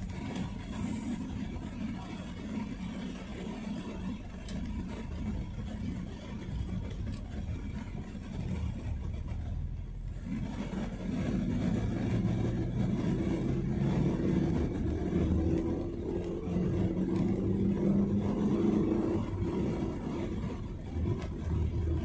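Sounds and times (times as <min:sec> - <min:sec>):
car engine: 0:00.0 - 0:22.0
road noise: 0:00.0 - 0:22.0.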